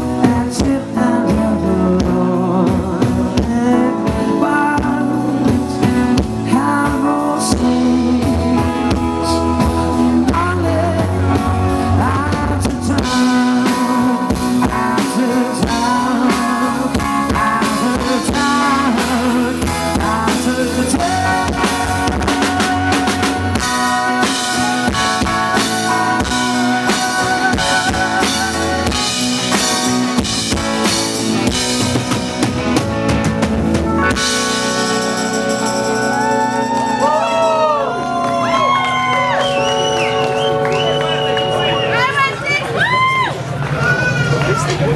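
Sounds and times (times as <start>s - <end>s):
drums and cymbals: 0.0s - 37.7s
rock band playing: 0.0s - 44.9s.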